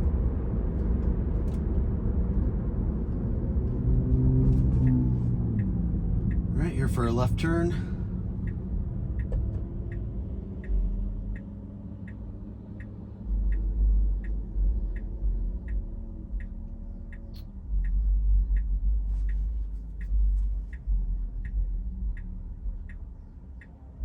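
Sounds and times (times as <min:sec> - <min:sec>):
low road rumble: 0:00.0 - 0:24.0
turn signal ticking: 0:00.1 - 0:24.0.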